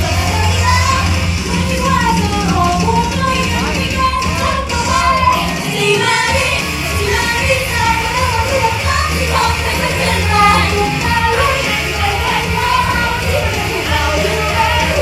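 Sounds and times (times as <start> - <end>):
pop song with female singing: 0.0 - 15.0.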